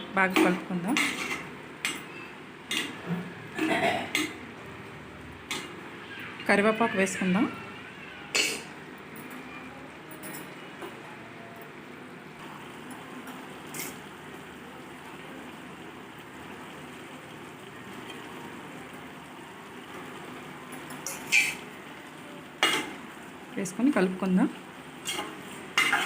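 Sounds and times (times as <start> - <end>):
food sizzling in hot oil: 0.1 - 9.2, 12.2 - 26.0.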